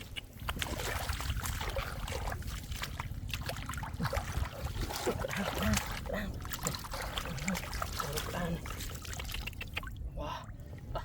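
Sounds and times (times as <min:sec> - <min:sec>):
shallow water splashing: 0:00.3 - 0:10.0.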